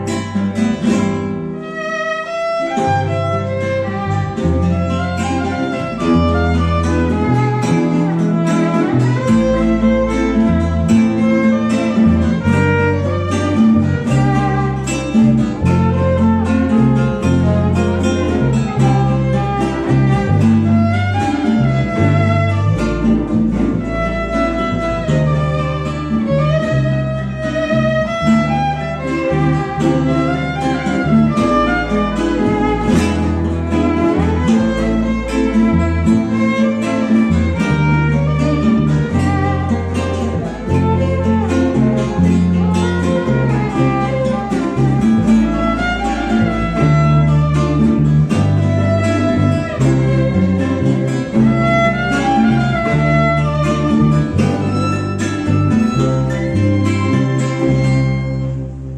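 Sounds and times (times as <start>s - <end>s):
bass line: 0.0s - 58.9s
strummed string instruments: 0.0s - 58.9s
violin melody: 0.0s - 58.9s.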